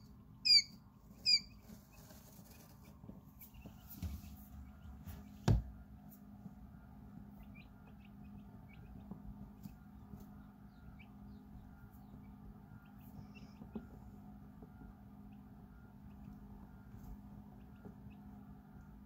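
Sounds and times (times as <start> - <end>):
chicks peeping softly: 0.0 - 19.0
steady low hum: 0.0 - 19.0.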